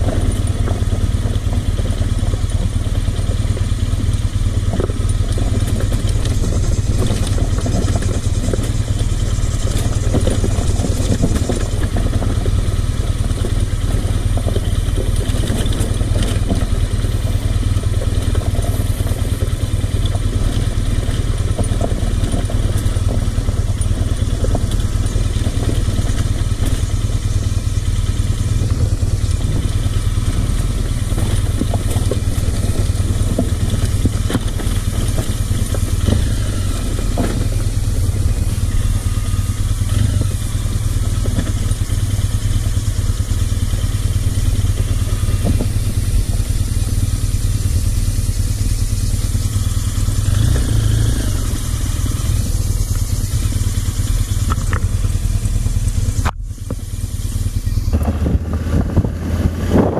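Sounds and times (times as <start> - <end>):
motorcycle engine running: 0.0 - 59.9
motorcycle rattling and knocking: 0.0 - 59.9.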